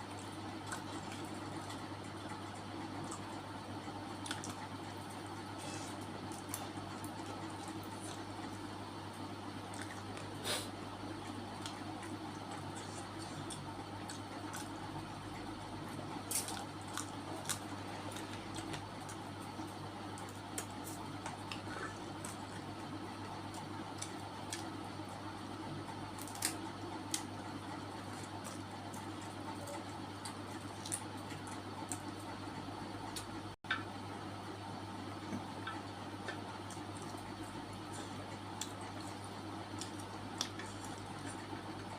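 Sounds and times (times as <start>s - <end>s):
wet chewing and squishing: 0.0s - 10.4s, 11.0s - 25.3s, 26.1s - 32.3s, 35.2s - 41.9s.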